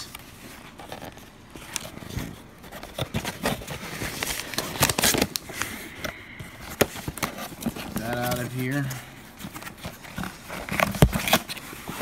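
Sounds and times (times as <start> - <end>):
hands rummaging in cardboard box: 0.0 - 12.0
packing material crinkling: 0.0 - 12.0.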